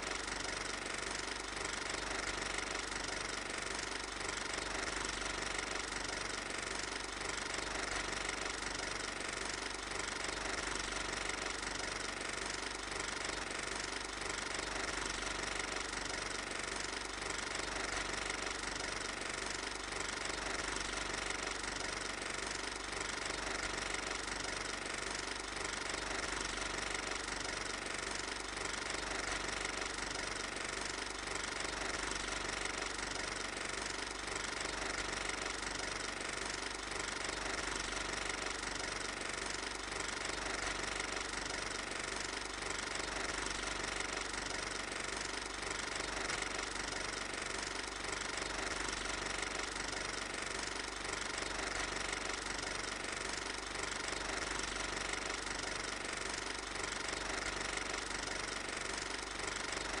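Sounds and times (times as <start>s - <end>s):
film projector clattering: 0.0s - 60.0s.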